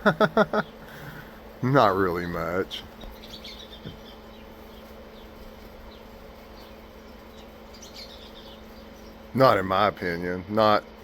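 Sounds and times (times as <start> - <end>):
insect buzz: 0.0 - 9.8.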